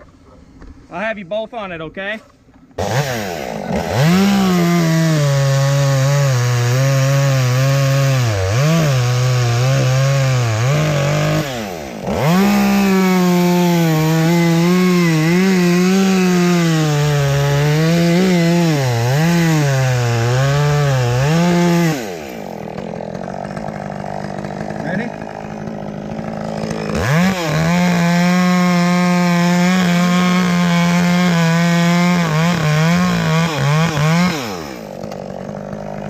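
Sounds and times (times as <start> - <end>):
chainsaw cutting wood: 2.5 - 36.0.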